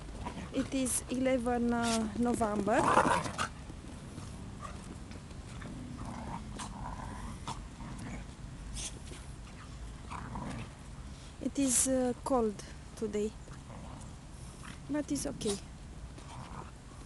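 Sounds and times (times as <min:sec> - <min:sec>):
dogs snarling and growling: 0:00.1 - 0:10.8, 0:13.5 - 0:17.0.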